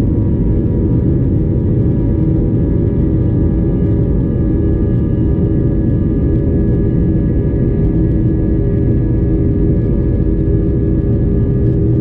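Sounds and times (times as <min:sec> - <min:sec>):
engine fan tones: 0:00.0 - 0:12.0
jet engine rumble: 0:00.0 - 0:12.0.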